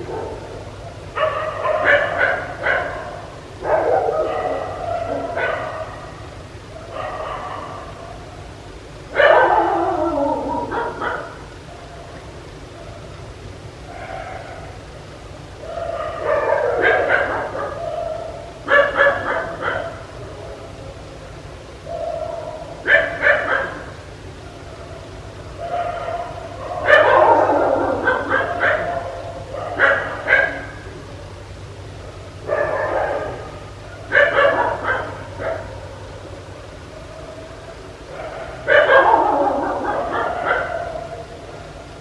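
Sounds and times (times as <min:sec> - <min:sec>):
dog barking: 0:00.0 - 0:08.3, 0:09.1 - 0:12.1, 0:13.9 - 0:14.8, 0:15.6 - 0:20.8, 0:21.9 - 0:24.0, 0:24.8 - 0:31.3, 0:32.3 - 0:41.3
steady low hum: 0:00.0 - 0:42.0.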